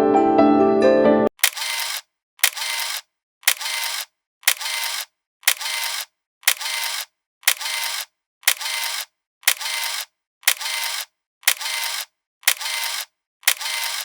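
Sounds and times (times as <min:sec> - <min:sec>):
sharp click: 0:01.4 - 0:14.0.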